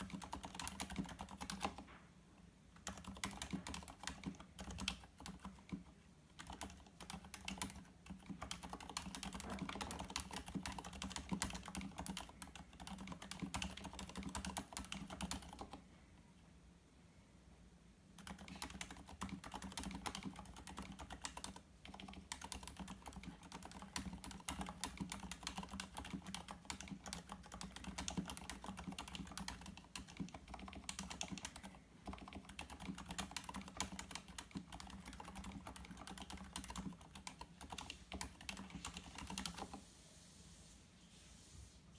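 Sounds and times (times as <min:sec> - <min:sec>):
typing on mechanical keyboard: 0:00.0 - 0:01.8, 0:02.8 - 0:15.8, 0:18.2 - 0:39.8.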